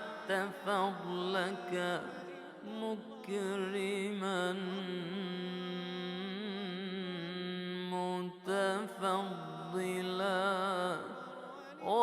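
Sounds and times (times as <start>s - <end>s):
man chanting melismatically: 0.0s - 12.0s.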